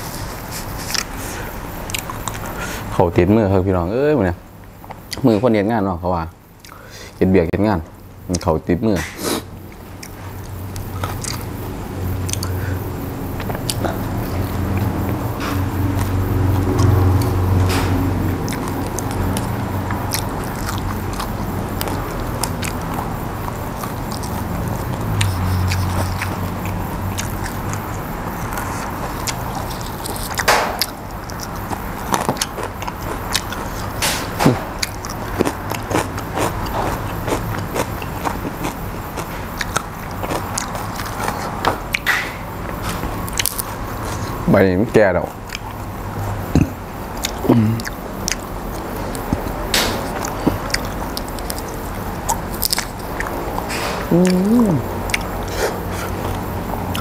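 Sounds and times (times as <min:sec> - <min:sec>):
person chewing food: 0:00.0 - 0:02.9, 0:06.6 - 0:06.8, 0:09.3 - 0:44.4, 0:45.4 - 0:57.0.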